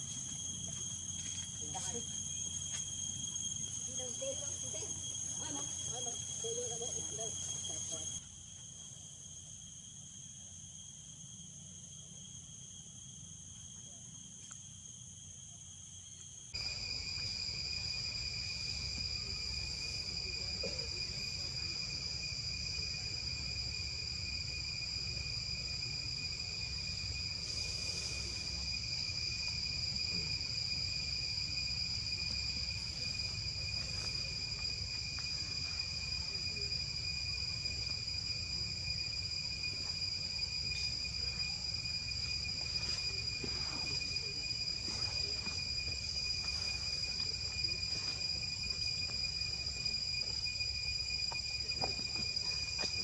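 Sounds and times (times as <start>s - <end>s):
high-pitched insect drone: 0.0s - 53.0s.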